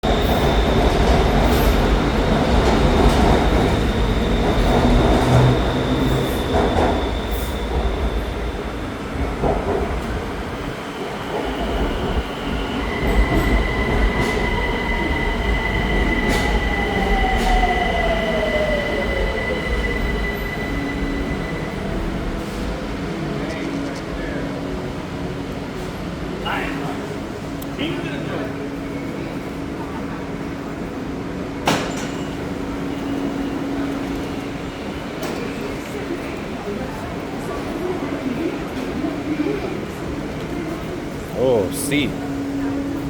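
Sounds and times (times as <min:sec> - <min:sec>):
train cars running: 0:00.0 - 0:43.0.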